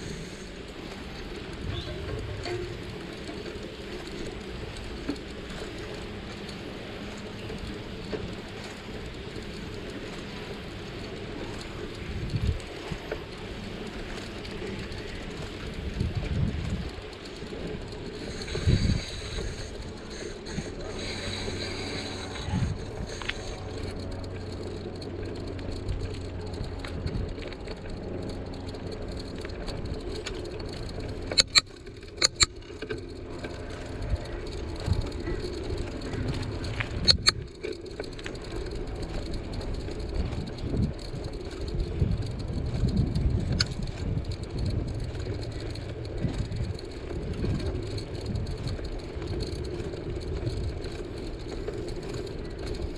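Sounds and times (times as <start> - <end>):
bicycle rattling: 0.0 - 52.9
sharp clicks: 0.0 - 52.9
wind and tyre noise: 0.0 - 52.9.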